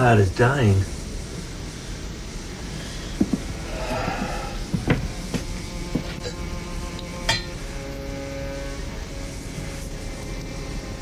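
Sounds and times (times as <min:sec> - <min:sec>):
faint music: 0:00.0 - 0:11.0
low fire rumble: 0:00.0 - 0:11.0.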